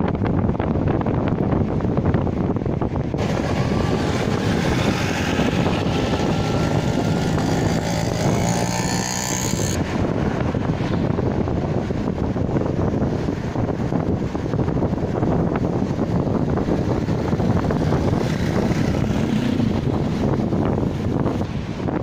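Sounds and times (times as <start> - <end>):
car road noise: 0.0 - 22.0
motorcycle engine running alongside: 0.0 - 22.0
wind rushing over microphone: 0.0 - 22.0.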